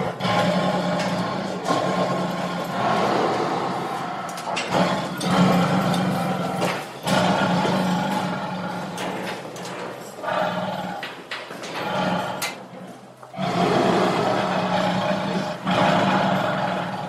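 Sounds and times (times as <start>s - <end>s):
tiger growling and roaring: 0.0s - 17.0s.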